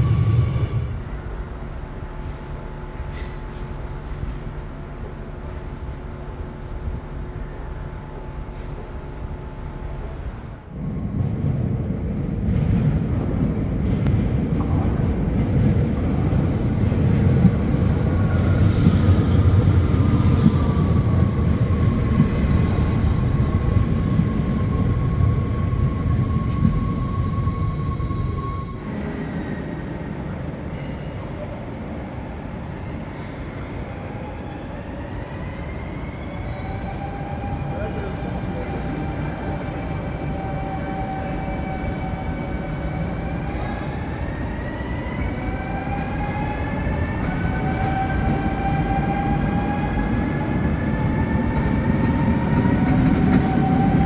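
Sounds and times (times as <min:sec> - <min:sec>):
electric train passing at speed: 0:00.0 - 0:54.0
train rumbling slowly: 0:00.0 - 0:54.0.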